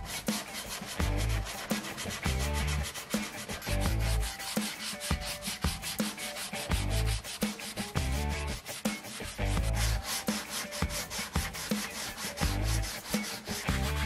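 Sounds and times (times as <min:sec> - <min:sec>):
sandpaper rasping on wood: 0:00.0 - 0:14.0.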